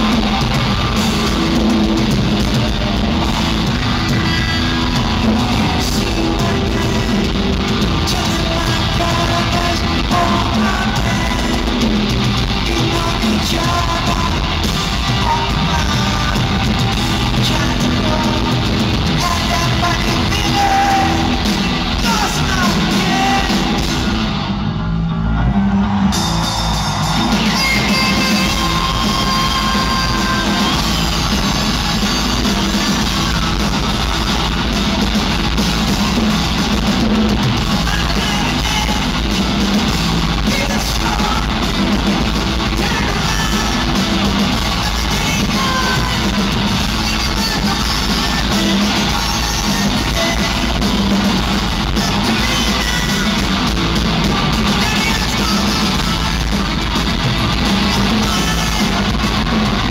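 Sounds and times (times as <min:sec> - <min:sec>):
person singing: 0:00.0 - 0:24.2, 0:27.1 - 0:34.4, 0:37.0 - 0:59.9
live rock band playing: 0:00.0 - 0:59.9.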